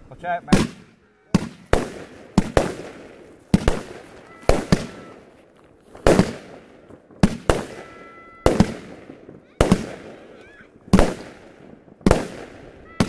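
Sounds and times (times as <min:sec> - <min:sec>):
fireworks bangs with rumble: 0:00.5 - 0:05.2, 0:06.0 - 0:10.3, 0:10.9 - 0:12.8.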